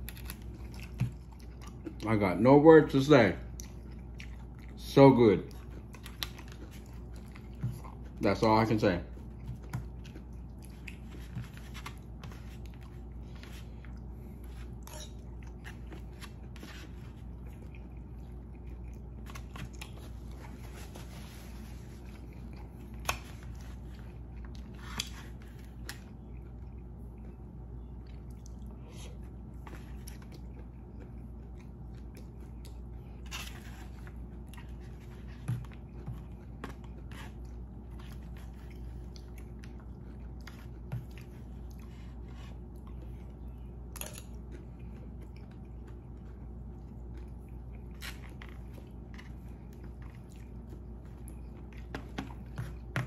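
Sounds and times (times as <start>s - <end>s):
person chewing: 0.0s - 2.2s, 3.4s - 8.2s, 9.1s - 53.0s
steady low hum: 0.0s - 53.0s.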